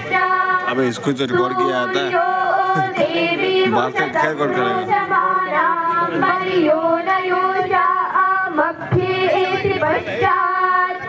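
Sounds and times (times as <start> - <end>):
person singing a hymn: 0.0 - 11.0.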